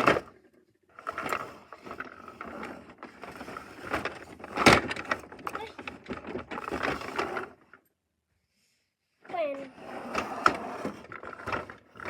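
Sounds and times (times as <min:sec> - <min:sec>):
plastic toys scraping and rustling: 0:00.0 - 0:07.8, 0:09.2 - 0:12.0.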